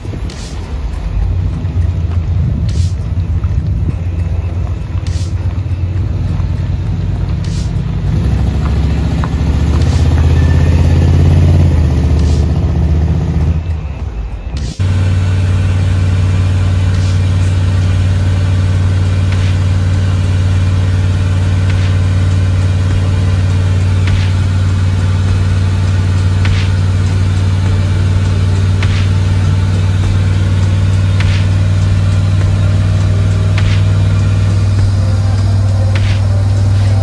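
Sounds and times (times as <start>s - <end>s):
engine drone: 0.0s - 37.0s
road noise: 0.0s - 37.0s.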